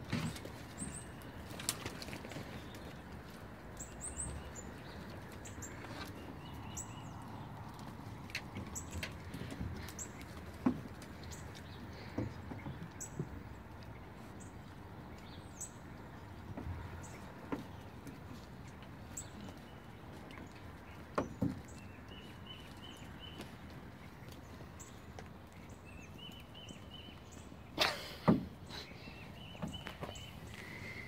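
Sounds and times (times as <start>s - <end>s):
paws scuffling through mulch: 0.0s - 27.7s, 29.2s - 31.0s.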